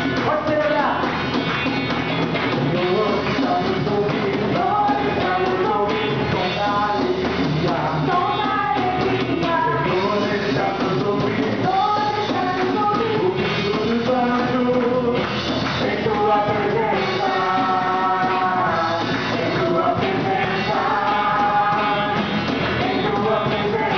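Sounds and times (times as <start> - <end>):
rock band music: 0.0 - 23.9
person singing: 2.6 - 23.9.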